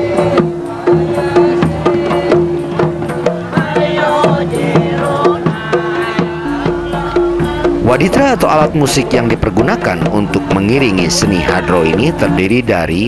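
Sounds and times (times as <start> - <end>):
frame drums beating: 0.0 - 13.0
voices singing: 0.0 - 13.0.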